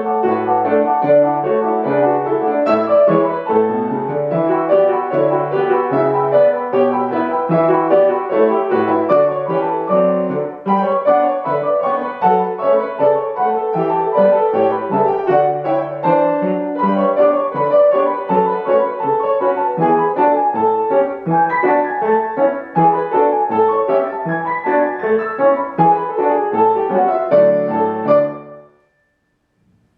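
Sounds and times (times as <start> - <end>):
piano playing a polka: 0.0 - 29.0.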